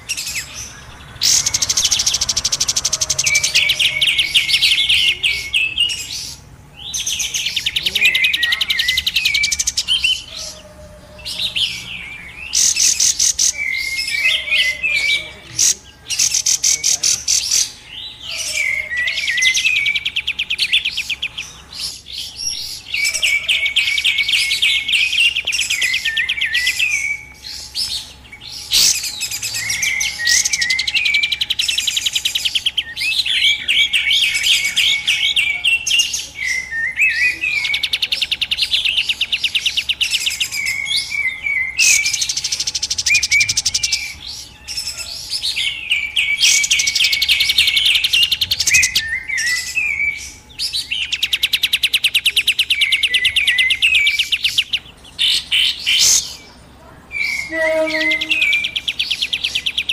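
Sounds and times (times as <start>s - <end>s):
bird trilling and whistling: 0.0s - 56.4s, 57.1s - 59.9s.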